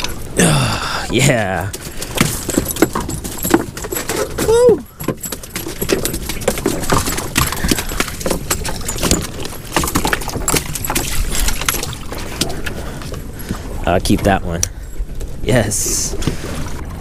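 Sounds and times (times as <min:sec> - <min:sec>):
knocks and clatters on boat deck: 0:01.1 - 0:15.4.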